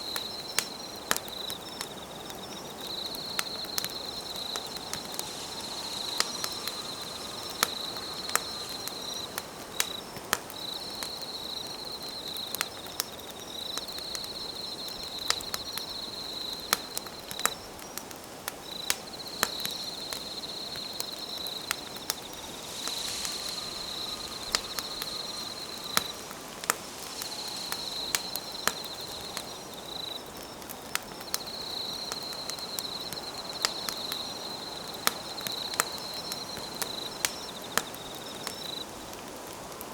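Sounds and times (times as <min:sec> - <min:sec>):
campfire crackling and popping: 0:00.0 - 0:39.9
night insects trilling: 0:00.0 - 0:39.9.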